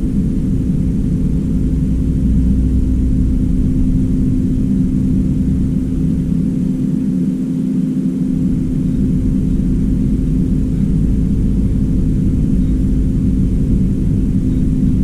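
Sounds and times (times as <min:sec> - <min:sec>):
loud low mechanical drone: 0:00.0 - 0:15.0.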